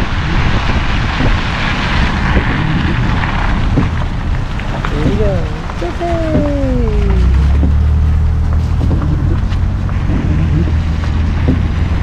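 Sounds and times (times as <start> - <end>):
tyres rumbling on wet road: 0.0 - 12.0
wind: 0.0 - 12.0.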